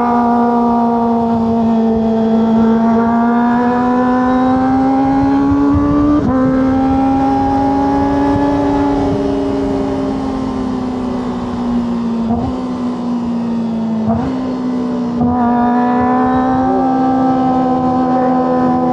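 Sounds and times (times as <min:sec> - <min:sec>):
motorcycle engine high pitch: 0:00.0 - 0:18.9.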